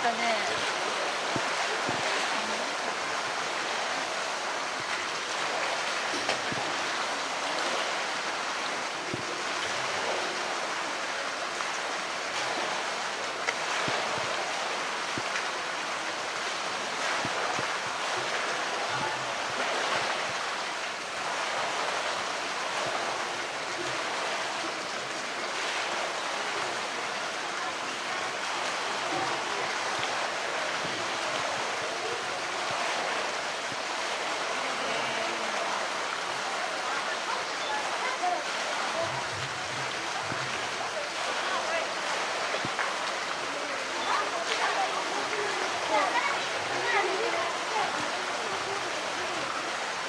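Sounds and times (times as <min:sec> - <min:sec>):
running and splashing water: 0:00.0 - 0:50.0.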